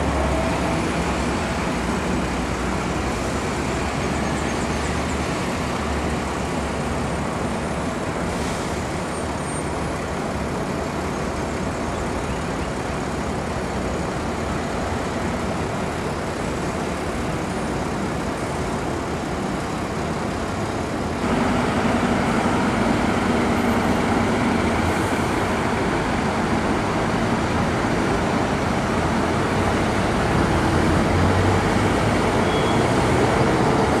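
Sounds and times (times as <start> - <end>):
diesel bus engine: 0.0 - 34.0
road traffic noise: 0.0 - 34.0.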